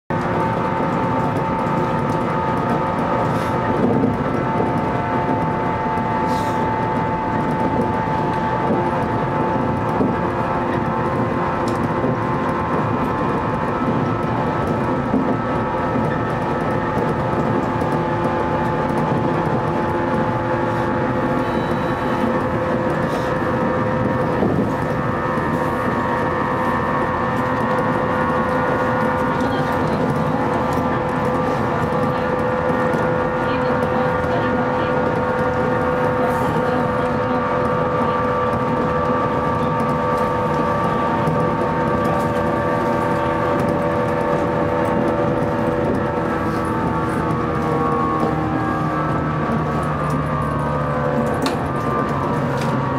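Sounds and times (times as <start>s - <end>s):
running gear humming: 0.1s - 52.9s
wheels rumbling on rails: 0.1s - 52.9s.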